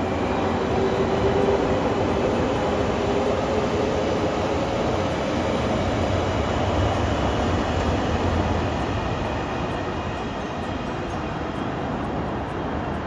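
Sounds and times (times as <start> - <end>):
train rail rumble: 0.0 - 13.0.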